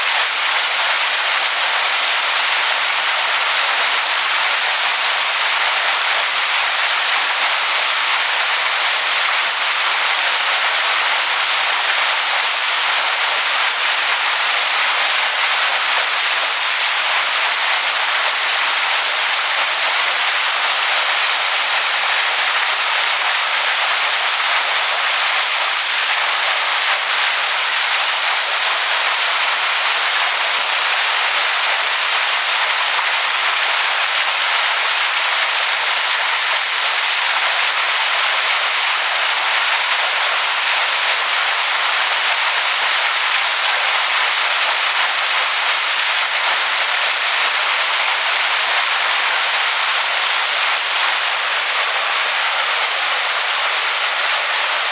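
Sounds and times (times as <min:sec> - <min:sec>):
waterfall splashing onto rocks: 0:00.0 - 0:54.9.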